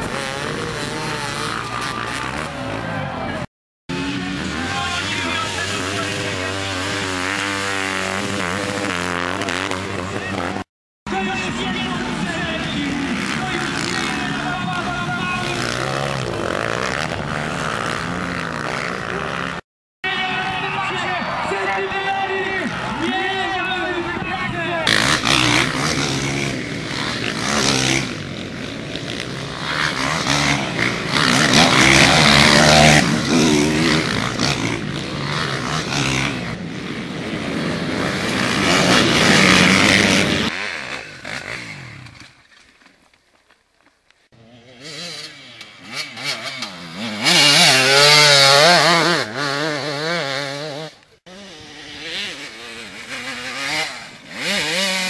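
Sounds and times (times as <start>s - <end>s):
dirt bike engines revving: 0.0s - 42.9s, 44.3s - 55.0s.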